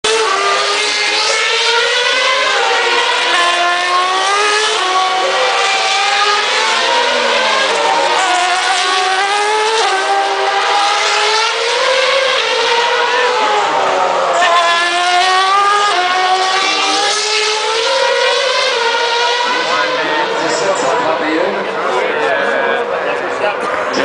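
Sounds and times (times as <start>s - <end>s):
racing car engines screaming: 0.1s - 24.0s.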